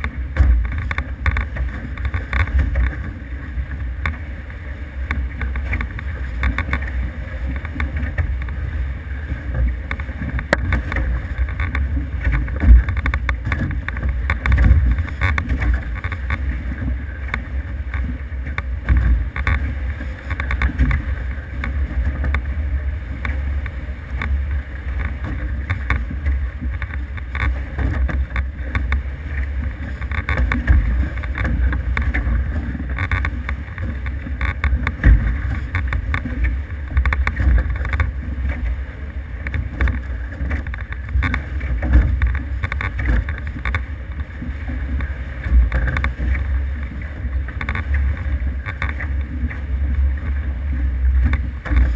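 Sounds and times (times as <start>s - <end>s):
rushing water: 0.0s - 51.9s
wind rumbling on microphone: 0.0s - 51.9s.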